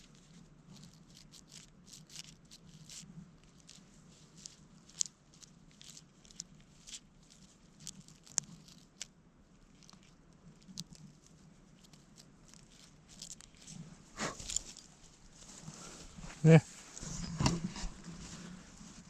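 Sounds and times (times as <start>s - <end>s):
rustling scrape: 0.0s - 9.1s, 9.7s - 19.0s
crackling rustles: 0.0s - 19.0s.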